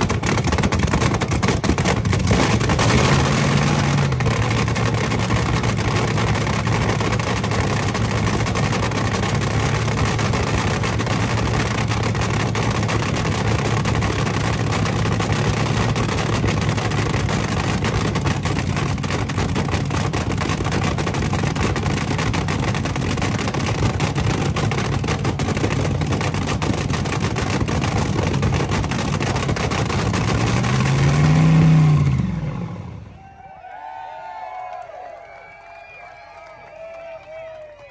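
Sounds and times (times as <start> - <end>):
dragster engine idling hard: 0.0 - 33.0.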